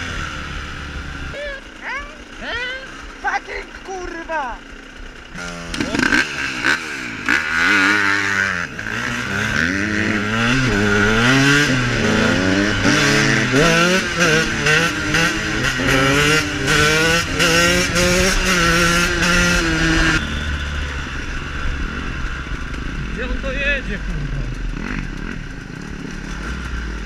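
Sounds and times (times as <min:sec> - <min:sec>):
dirt bike engine accelerating: 0:00.0 - 0:27.0.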